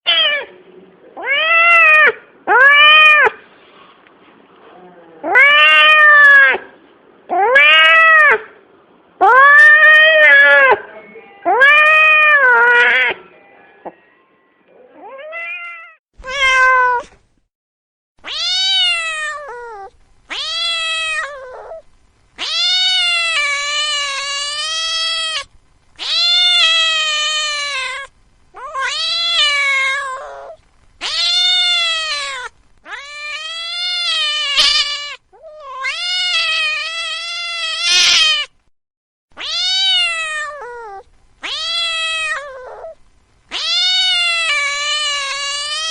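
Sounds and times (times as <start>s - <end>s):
cat meowing: 0.1s - 0.5s, 1.2s - 3.4s, 5.2s - 6.7s, 7.3s - 8.5s, 9.2s - 10.8s, 11.4s - 17.2s, 18.2s - 21.8s, 22.4s - 38.5s, 39.4s - 45.9s.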